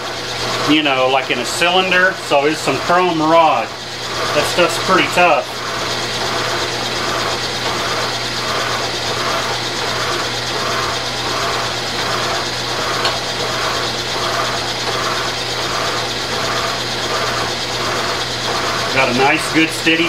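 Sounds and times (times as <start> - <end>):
motor hum: 0.0 - 20.0
rhythmic pulsing milling cut: 0.0 - 20.0.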